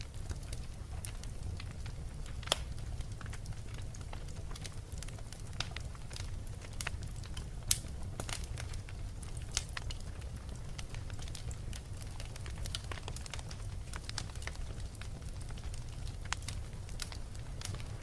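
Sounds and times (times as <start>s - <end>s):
fire crackling and popping: 0.0s - 18.0s
fire rumbling: 0.0s - 18.0s.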